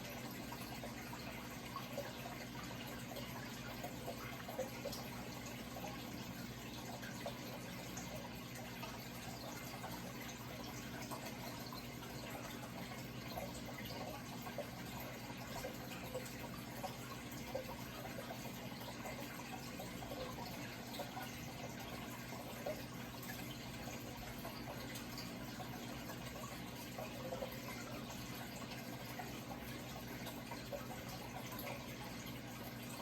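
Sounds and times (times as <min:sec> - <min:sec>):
low steady hum: 0:00.0 - 0:33.0
water trickling and bubbling: 0:00.0 - 0:33.0.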